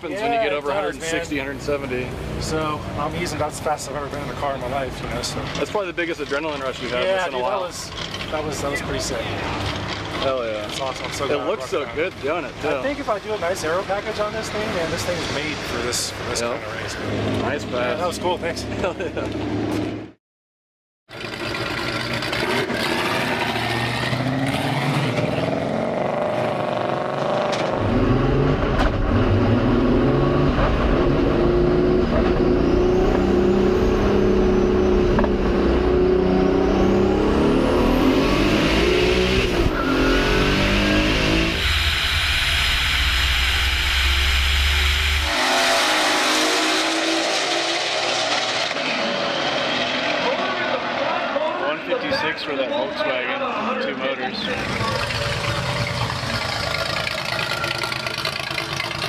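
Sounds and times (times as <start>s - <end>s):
car engines accelerating hard: 0.5s - 20.1s, 21.1s - 51.9s, 54.3s - 59.0s.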